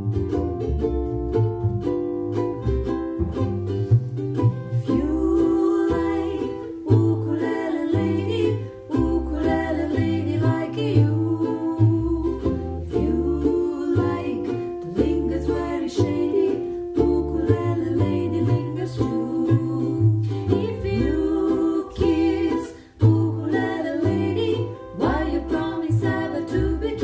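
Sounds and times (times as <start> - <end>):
plucked double bass: 0.0 - 27.0
ukulele playing: 0.0 - 27.0
women singing: 4.6 - 27.0.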